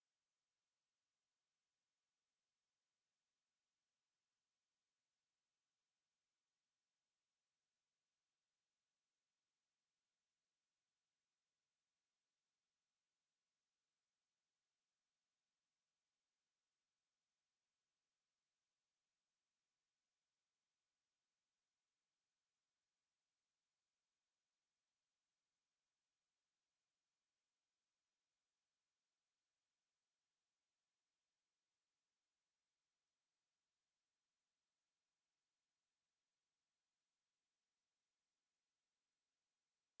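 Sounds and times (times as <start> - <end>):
high-pitched sine-wave test tone: 0.0 - 40.0.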